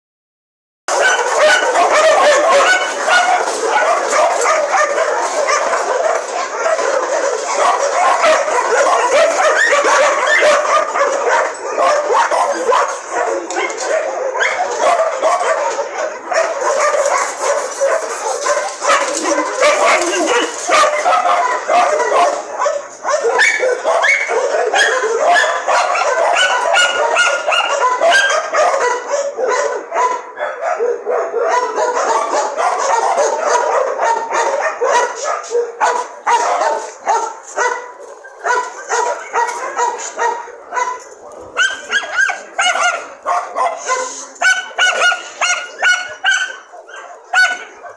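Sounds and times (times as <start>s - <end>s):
dogs barking: 0.9s - 47.9s.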